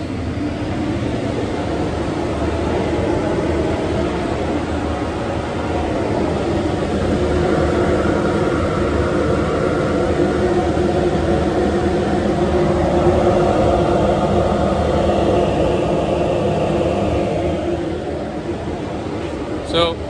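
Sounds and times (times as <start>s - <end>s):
fume extractor blower rushing air: 0.0s - 20.0s.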